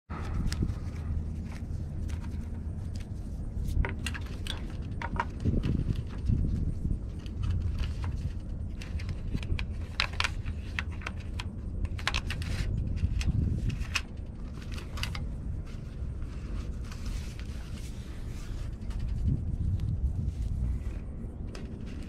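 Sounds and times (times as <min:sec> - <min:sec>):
rope and fittings clicking: 0:00.1 - 0:22.0
wind on microphone: 0:00.1 - 0:22.0.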